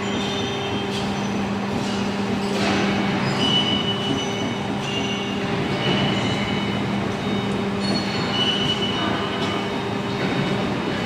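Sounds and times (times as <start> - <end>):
bending machine humming: 0.0 - 11.0.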